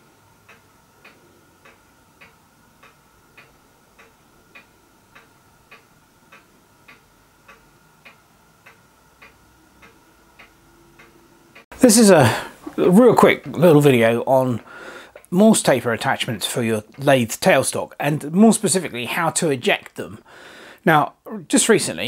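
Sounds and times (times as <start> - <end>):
faint steady hum: 0.0 - 22.0
faint even ticking: 0.3 - 19.0.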